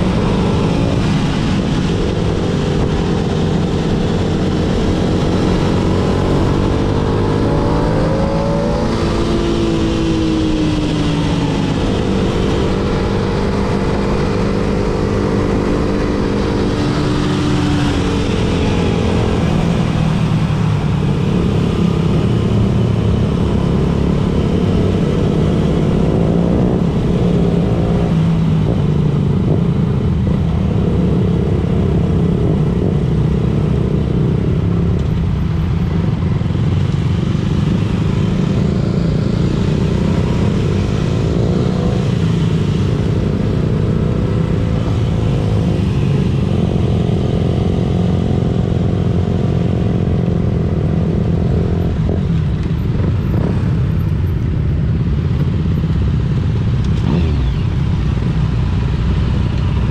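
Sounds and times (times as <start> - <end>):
motorcycle engine revving: 0.0 - 35.2, 35.9 - 59.9.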